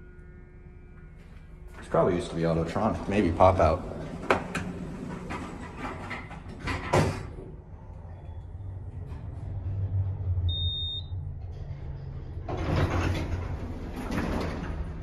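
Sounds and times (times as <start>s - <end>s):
elevator hum: 0.0s - 15.0s
elevator doors sliding open: 1.8s - 15.0s.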